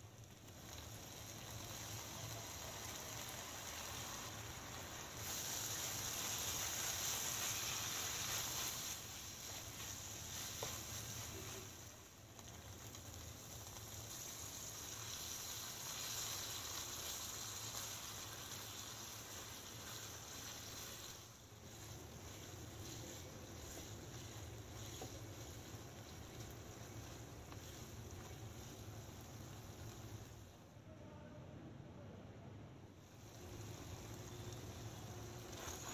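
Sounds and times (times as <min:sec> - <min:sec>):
chicken sizzling in a wok: 0:00.0 - 0:30.7, 0:33.0 - 0:35.9
spatula stirring: 0:00.2 - 0:30.6, 0:33.2 - 0:35.9.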